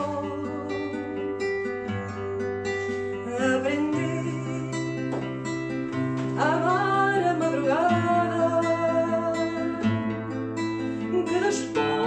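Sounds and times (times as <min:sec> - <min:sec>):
person singing: 0:00.0 - 0:05.4, 0:06.2 - 0:12.0
acoustic guitar picking: 0:00.0 - 0:12.0.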